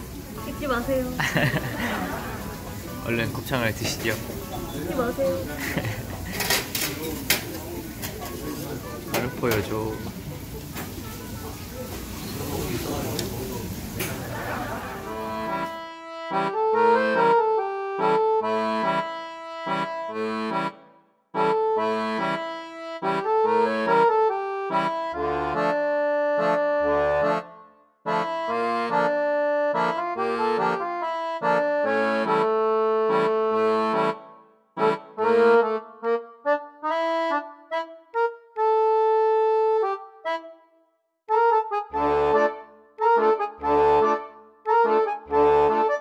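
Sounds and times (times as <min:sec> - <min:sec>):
lively instrumental music: 0:00.0 - 0:12.2, 0:13.9 - 0:46.0.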